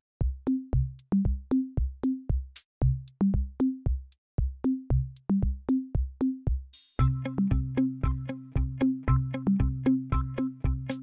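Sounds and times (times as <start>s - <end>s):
electronic music with drum machine: 0.3s - 11.0s.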